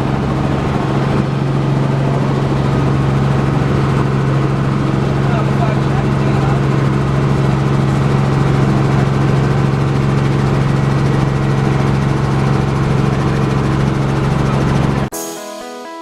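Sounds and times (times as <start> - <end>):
helicopter engine and rotors: 0.0 - 15.1.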